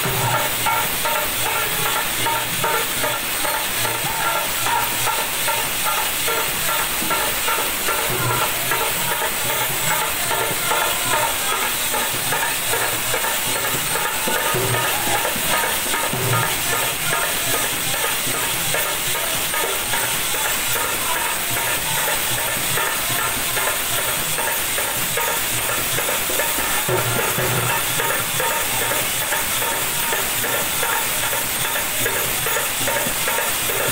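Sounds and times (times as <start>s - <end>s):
brass hand cymbals clashing: 0.0s - 33.9s
hand drum beats: 0.0s - 33.9s.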